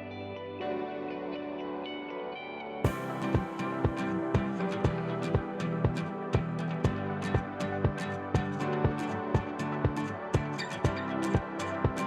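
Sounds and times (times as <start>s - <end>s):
calm ambient electronic music: 0.0s - 12.0s
plucked guitar-like notes: 0.0s - 12.0s.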